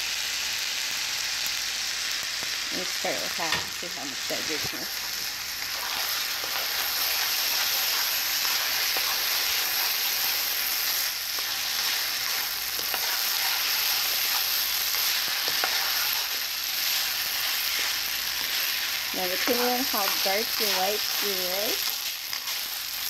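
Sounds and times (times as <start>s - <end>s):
rice sizzling in a pan: 0.0s - 23.0s.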